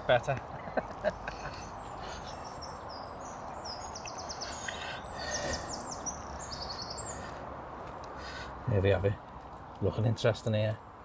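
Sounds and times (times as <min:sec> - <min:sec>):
birds chirping and trilling: 0:00.0 - 0:11.0
outdoor background noise: 0:00.0 - 0:11.0.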